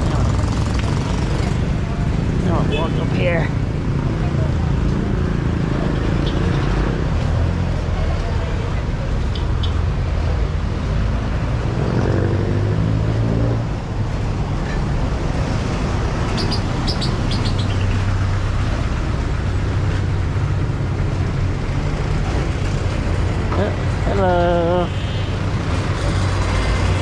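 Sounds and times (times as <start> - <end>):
vehicle engines running: 0.0 - 27.0.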